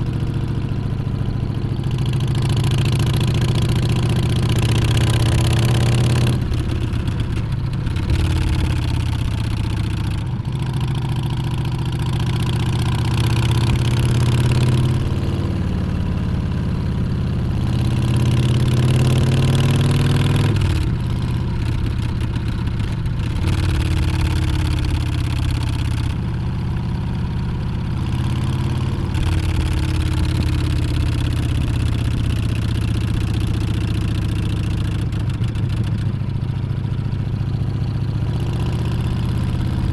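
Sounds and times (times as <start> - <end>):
motorcycle engine revving: 0.0 - 26.2, 28.0 - 36.2.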